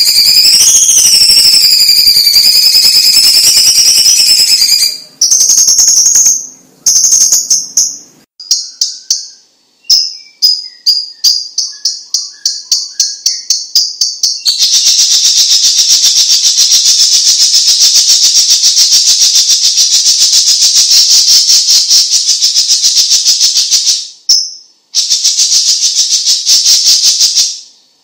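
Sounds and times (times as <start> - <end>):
bird trilling and chirping: 0.0 - 27.8.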